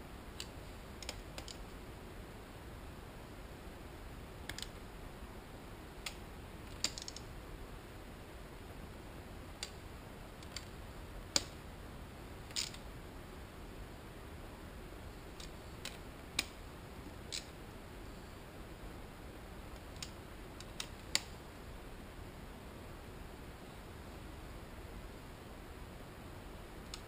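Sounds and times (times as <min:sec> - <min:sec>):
steady low hiss: 0:00.0 - 0:27.0.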